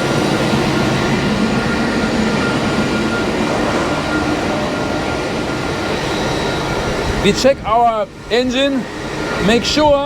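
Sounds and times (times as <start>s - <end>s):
machinery rumble and hiss: 0.0s - 10.0s
thin high whine: 0.0s - 10.0s.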